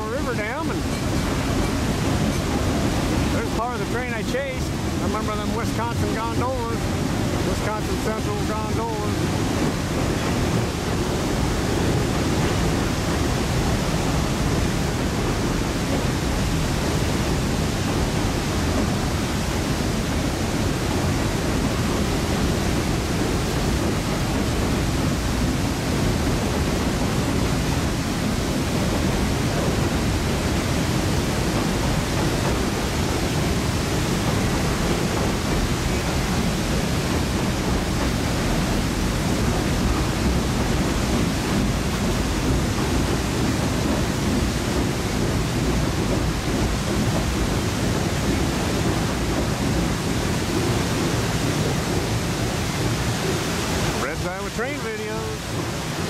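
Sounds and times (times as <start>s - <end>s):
water roaring over a dam: 0.0s - 56.0s.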